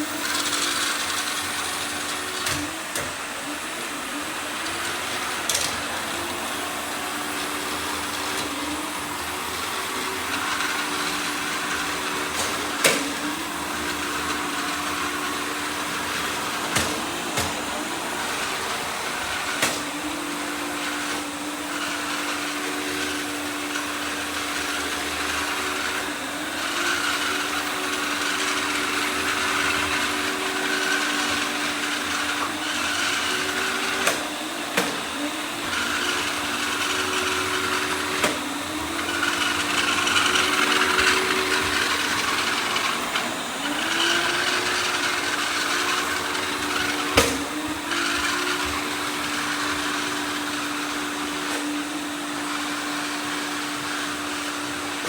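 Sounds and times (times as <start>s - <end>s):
robot vacuum motor hum: 0.0s - 55.0s.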